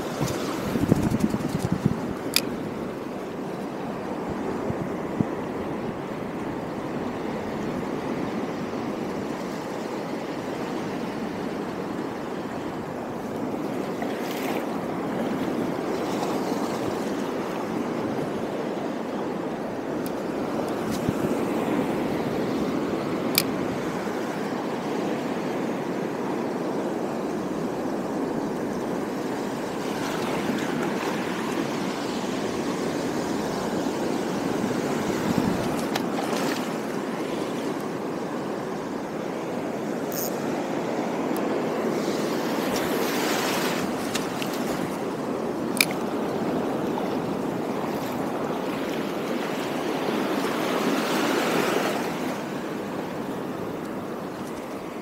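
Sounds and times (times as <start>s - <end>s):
sea surf washing: 0.0s - 55.0s.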